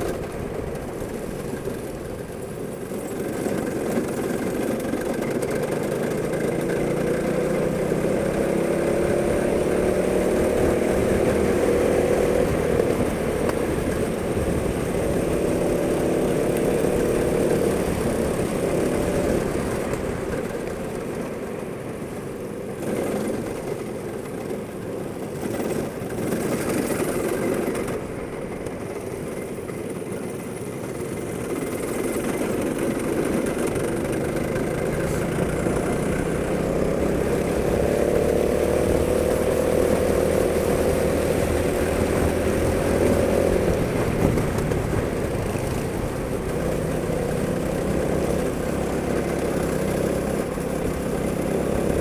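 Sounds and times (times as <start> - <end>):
go-kart engine running: 0.0 - 52.0.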